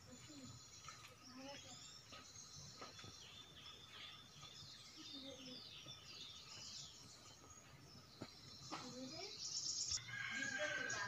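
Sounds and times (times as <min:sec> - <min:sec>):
faint birdsong: 0:00.0 - 0:11.0.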